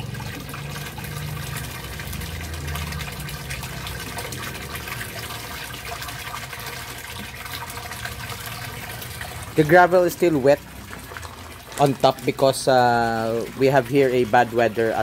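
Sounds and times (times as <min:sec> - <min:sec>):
water pouring into a tank: 0:00.0 - 0:15.0
water splashing: 0:00.0 - 0:15.0.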